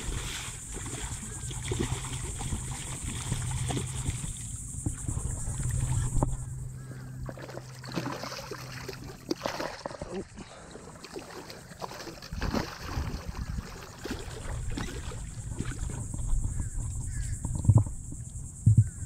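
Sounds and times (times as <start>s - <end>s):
water sloshing and splashing: 0.0s - 18.8s
steady low hum: 0.0s - 19.0s.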